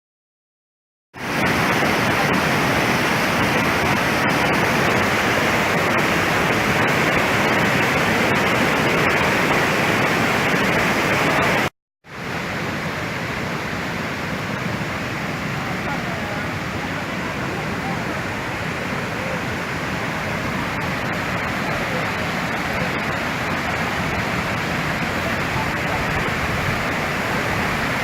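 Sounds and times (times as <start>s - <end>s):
waterfall rushing: 1.2s - 28.0s.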